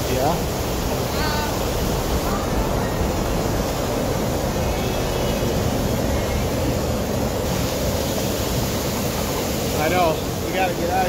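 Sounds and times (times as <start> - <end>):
loud steady rushing noise: 0.0 - 11.0.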